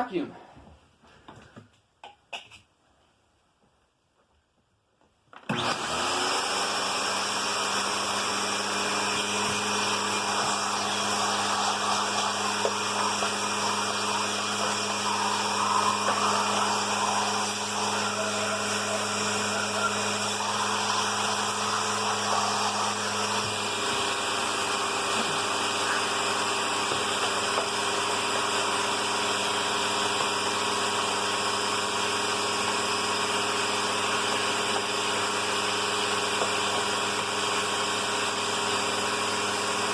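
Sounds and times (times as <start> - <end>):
vacuum cleaner motor running: 5.4 - 39.9.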